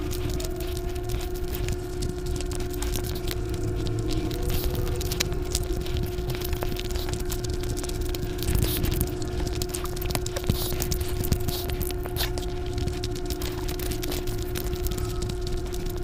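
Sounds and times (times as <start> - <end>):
fingers squelching through rice: 0.0 - 16.0
steady low hum: 0.0 - 16.0
wet chewing and mouth clicks: 0.0 - 16.0.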